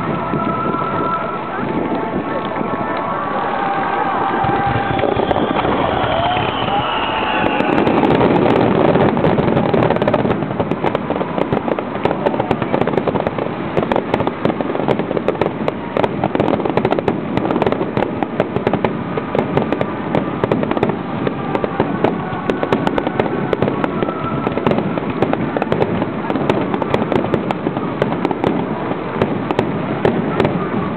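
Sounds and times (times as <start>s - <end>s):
fireworks crackling pops: 0.0s - 30.9s
steady rushing background noise: 0.0s - 30.9s.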